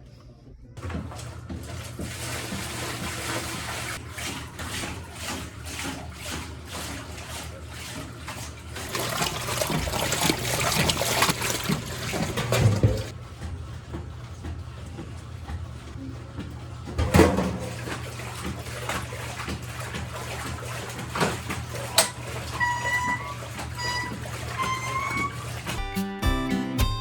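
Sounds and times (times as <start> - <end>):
water splashing and trickling: 0.8 - 25.9.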